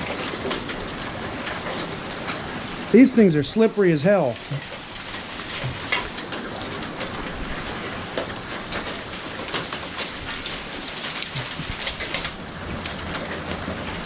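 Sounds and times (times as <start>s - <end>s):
light rain pattering: 0.0s - 14.0s
sharp ticks of raindrops: 0.0s - 14.0s.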